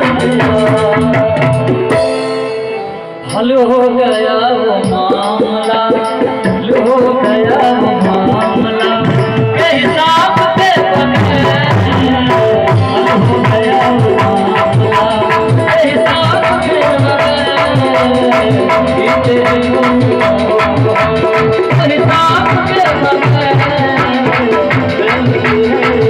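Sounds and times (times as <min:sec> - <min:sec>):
steady drum beat: 0:00.0 - 0:04.0, 0:04.6 - 0:26.0
live folk music: 0:00.0 - 0:26.0.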